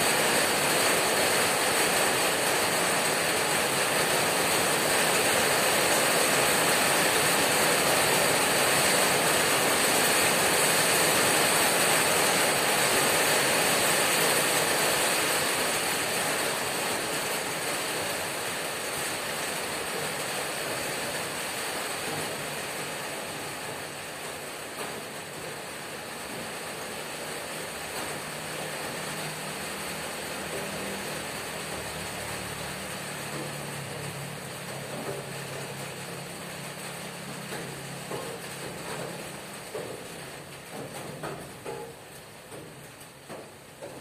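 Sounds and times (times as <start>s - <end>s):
rain on a tin roof: 0.0s - 44.0s.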